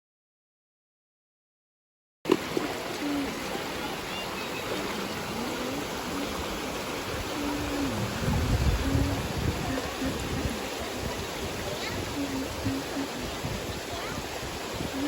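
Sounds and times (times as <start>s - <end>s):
water flowing: 2.3s - 15.0s.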